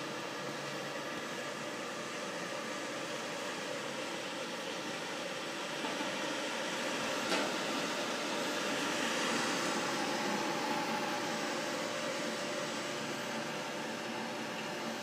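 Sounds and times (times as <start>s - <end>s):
cooling fan noise: 0.0s - 15.0s.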